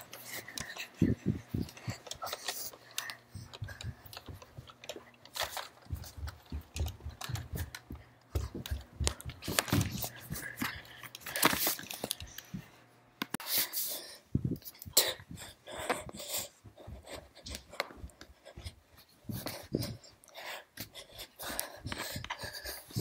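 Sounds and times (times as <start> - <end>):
footsteps: 0.0 - 20.2, 20.8 - 23.0.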